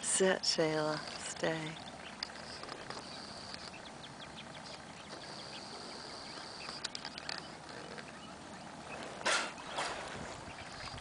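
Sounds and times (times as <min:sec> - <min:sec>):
faint water noise: 0:00.0 - 0:11.0.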